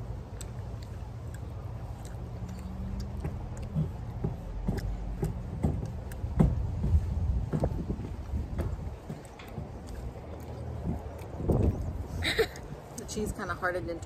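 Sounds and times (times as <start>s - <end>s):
people chewing: 0.0s - 13.1s.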